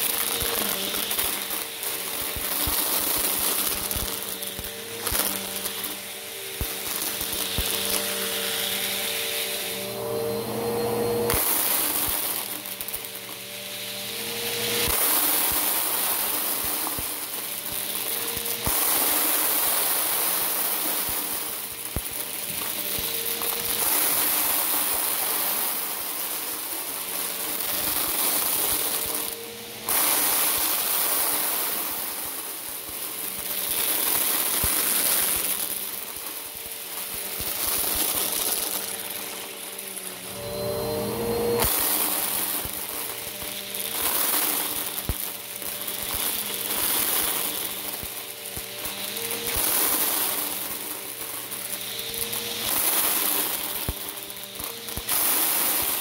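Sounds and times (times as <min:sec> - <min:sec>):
plastic beads rattling in nozzle: 0:00.0 - 0:09.8, 0:11.3 - 0:40.6, 0:41.5 - 0:56.0
vacuum cleaner running over carpet: 0:00.0 - 0:56.0.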